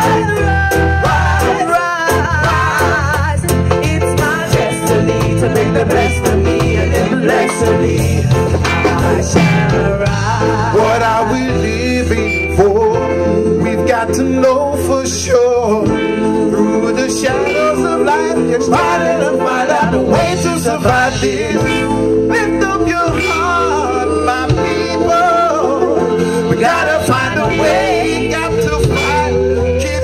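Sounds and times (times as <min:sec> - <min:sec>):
reggae band playing: 0:00.0 - 0:30.0
vocal group singing: 0:00.0 - 0:30.0.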